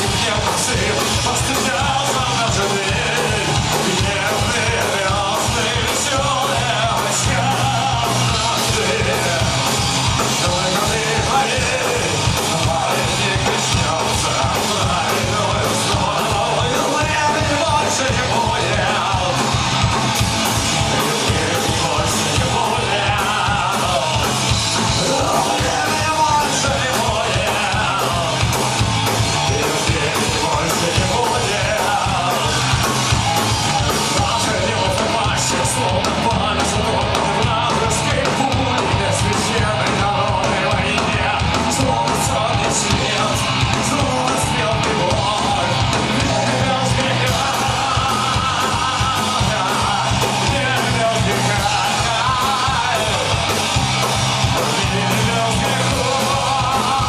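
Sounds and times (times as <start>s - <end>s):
electric guitars: 0.0s - 57.0s
fast driving drums: 0.0s - 57.0s
punk rock band playing: 0.0s - 57.0s
shouted singing: 0.0s - 57.0s.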